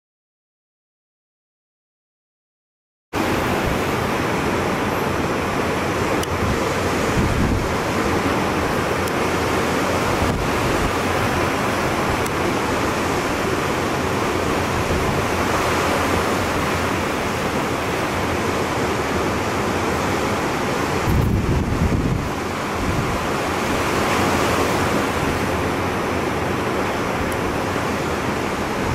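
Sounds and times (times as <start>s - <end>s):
sea surf: 3.2s - 28.9s
wind buffeting microphone: 3.3s - 26.6s.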